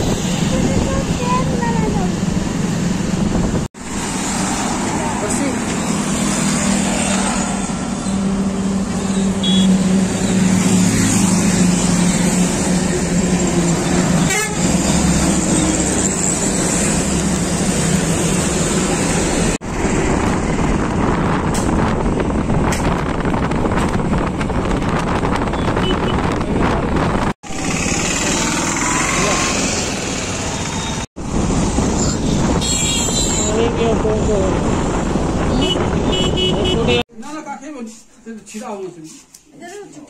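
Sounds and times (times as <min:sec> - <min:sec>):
vehicle engine and tyre noise: 0:00.0 - 0:37.0
passing traffic: 0:00.0 - 0:40.0.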